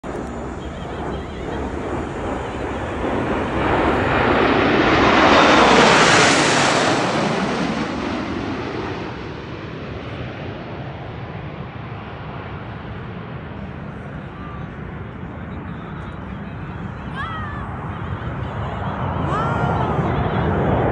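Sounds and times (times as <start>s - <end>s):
jets passing overhead: 0.0s - 20.9s.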